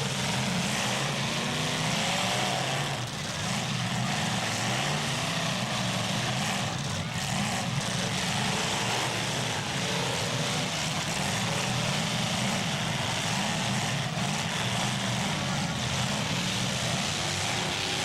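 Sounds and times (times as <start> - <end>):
demolition derby car engines: 0.0 - 18.0.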